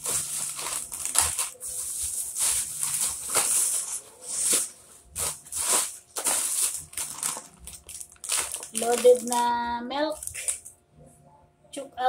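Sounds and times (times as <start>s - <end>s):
plastic wrappers crinkling: 0.0s - 10.8s.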